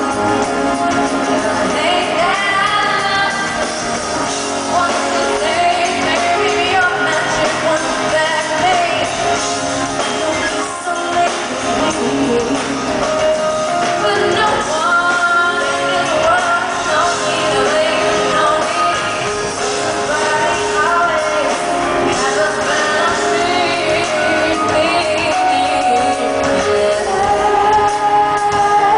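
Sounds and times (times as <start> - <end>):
live band playing pop music: 0.0 - 28.9
woman singing: 0.0 - 28.9.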